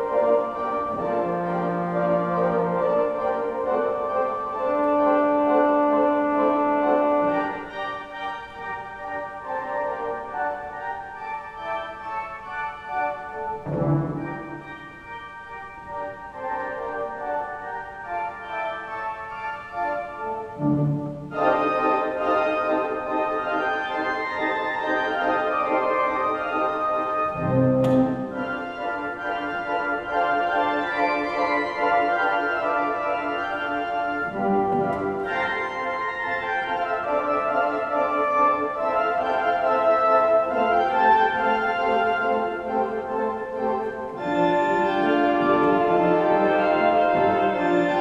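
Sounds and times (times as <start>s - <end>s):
pipe organ playing a march: 0.0s - 48.0s.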